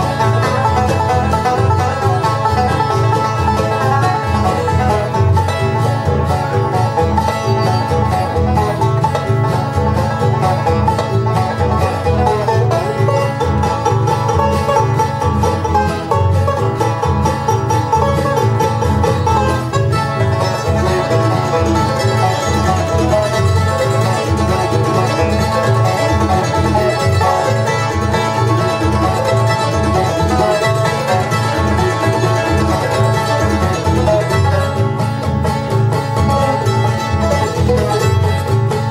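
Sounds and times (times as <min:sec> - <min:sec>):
bluegrass banjo music: 0:00.0 - 0:38.9.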